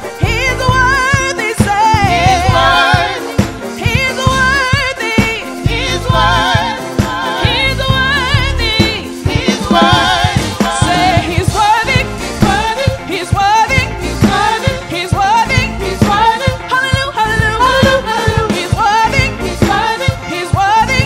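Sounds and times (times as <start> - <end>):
gospel band playing: 0.0 - 21.0
group singing: 1.3 - 21.0.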